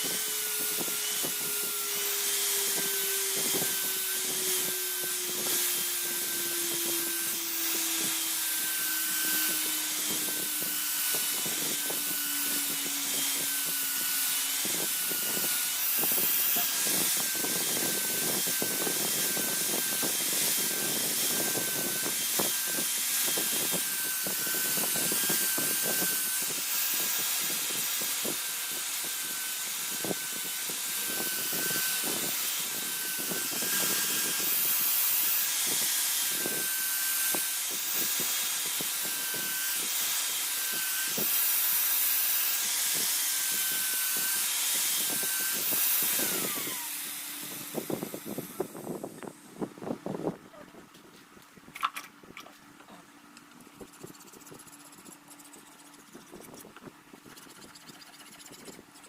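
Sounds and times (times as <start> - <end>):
grinder motor spinning down: 0.0 - 49.4
electric grinder grinding steel: 0.0 - 50.4, 53.8 - 59.0.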